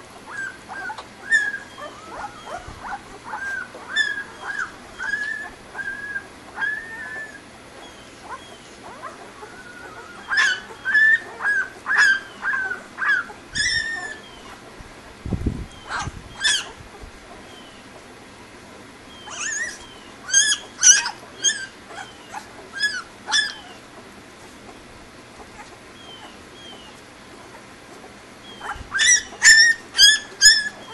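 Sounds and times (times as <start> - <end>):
puppies squeaking and whimpering: 0.0 - 18.1, 19.0 - 30.9.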